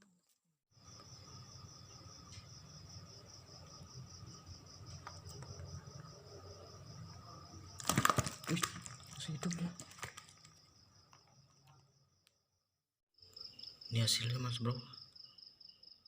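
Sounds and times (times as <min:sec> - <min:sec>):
insects trilling: 0:00.7 - 0:12.2, 0:13.2 - 0:16.0.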